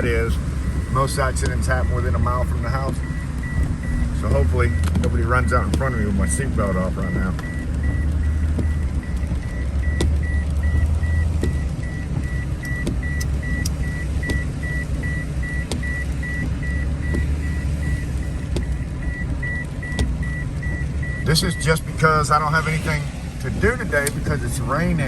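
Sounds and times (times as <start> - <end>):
seatbelt warning chime beeping: 0.0 - 22.6
car engine and road rumble: 0.0 - 25.0.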